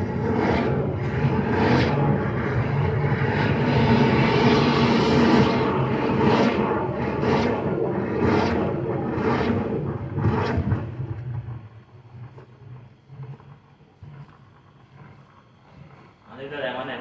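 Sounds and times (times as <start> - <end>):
drain-cleaning machine running: 0.0 - 17.0.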